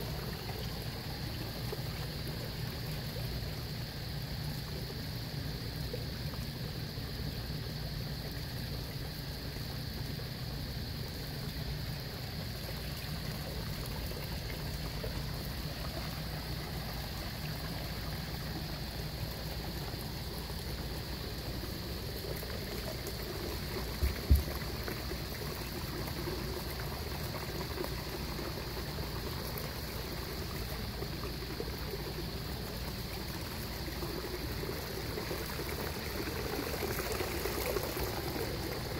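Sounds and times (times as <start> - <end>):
water pouring into pond: 0.0 - 38.9.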